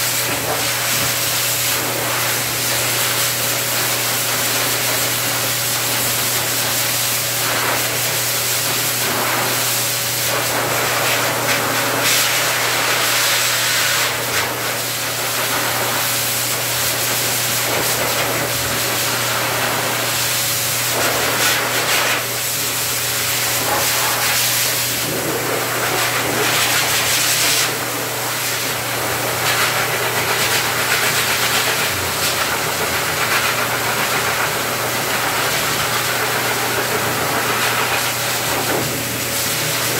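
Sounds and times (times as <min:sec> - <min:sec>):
blower dryer air rushing: 0:00.0 - 0:39.9.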